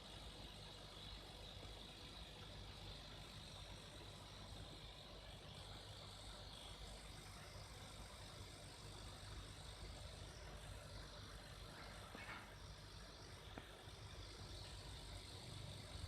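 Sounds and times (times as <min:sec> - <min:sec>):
refrigerator compressor hum: 0:00.0 - 0:16.0.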